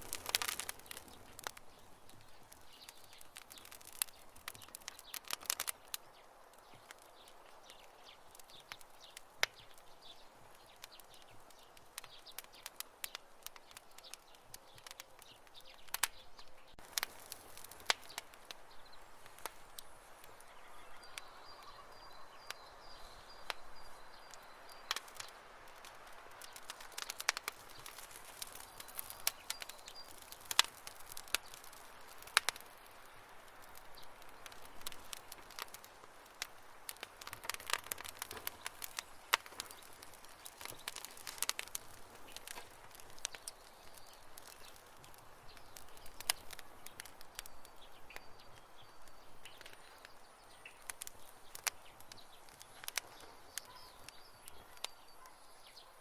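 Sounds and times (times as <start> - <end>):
campfire crackling and popping: 0.0 - 56.0
soft hiss of fire: 0.0 - 56.0.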